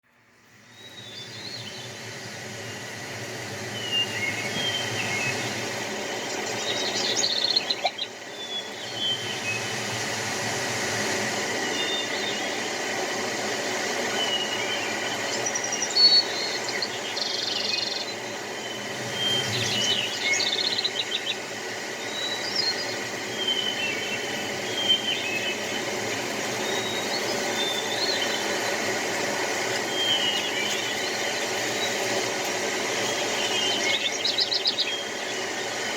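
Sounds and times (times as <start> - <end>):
birds chirping and trilling: 0.5 - 10.0, 11.5 - 35.9.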